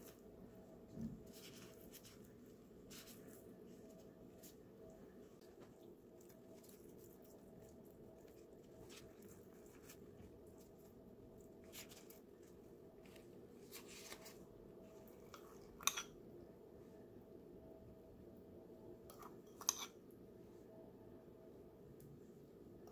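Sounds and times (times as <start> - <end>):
quiet room hum: 0.0 - 22.9.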